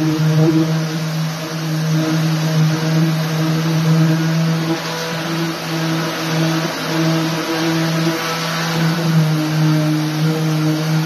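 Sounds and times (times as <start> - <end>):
drywall sander motor hum: 0.0 - 11.0
sanding and suction hiss: 0.0 - 11.0.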